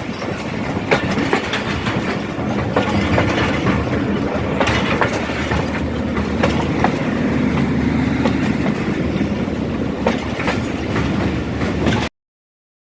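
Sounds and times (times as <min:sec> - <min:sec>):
train coaches rolling past: 0:00.0 - 0:12.1
wheels clacking over rail joints: 0:00.0 - 0:12.1.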